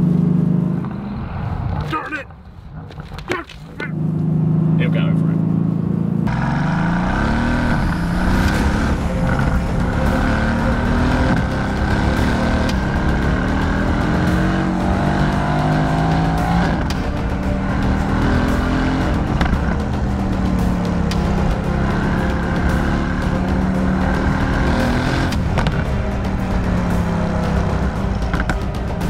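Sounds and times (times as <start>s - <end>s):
sports car engine revving: 3.6s - 29.0s.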